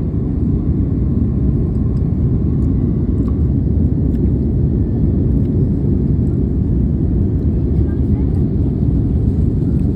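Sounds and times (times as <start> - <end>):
airliner cabin rumble: 0.0 - 9.9.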